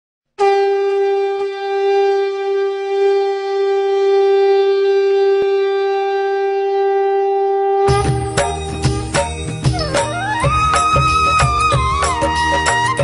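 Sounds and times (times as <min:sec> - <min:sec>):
conch shell blown: 0:00.4 - 0:13.0.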